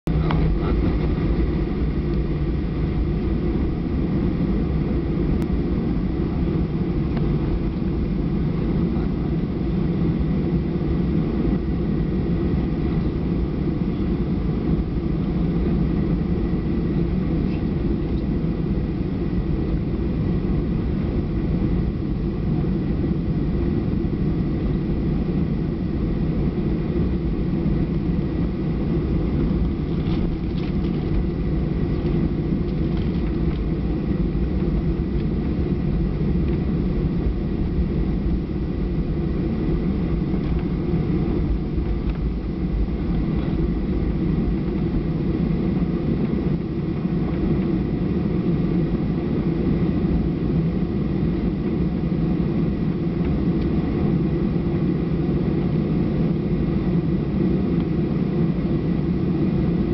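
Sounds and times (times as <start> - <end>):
jet engines idling: 0.1 - 59.9.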